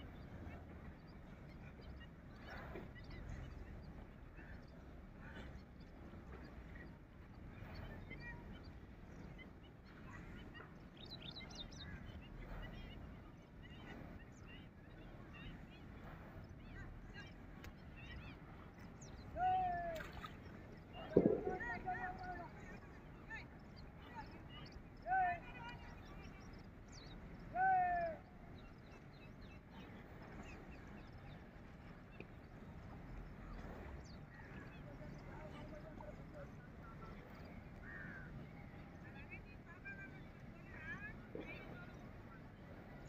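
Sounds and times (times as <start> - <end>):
birds chirping: 0.0 - 43.0
outdoor background noise: 0.0 - 43.0.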